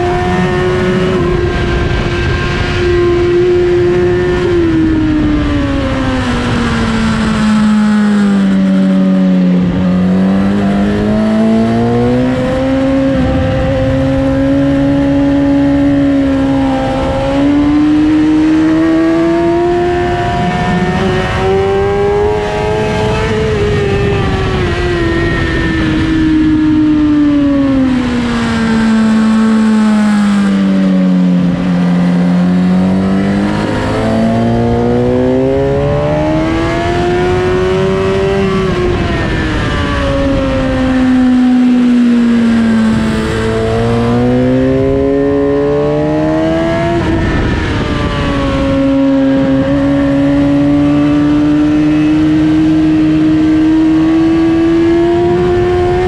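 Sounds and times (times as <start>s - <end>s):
motorcycle engine at high revs: 0.0s - 56.0s
wind rush: 0.0s - 56.0s.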